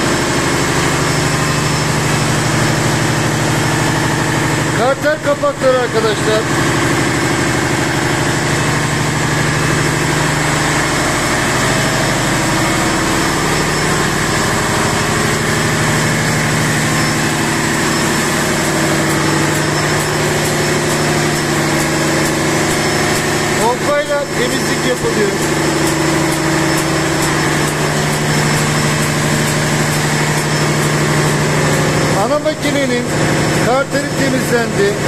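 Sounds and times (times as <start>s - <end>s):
engine-room machinery droning: 0.0s - 35.0s.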